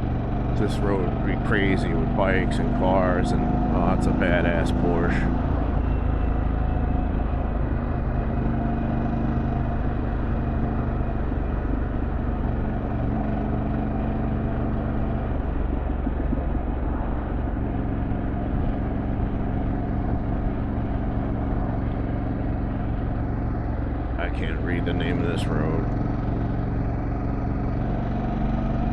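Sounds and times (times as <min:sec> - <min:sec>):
motorcycle engine cruising: 0:00.0 - 0:28.9.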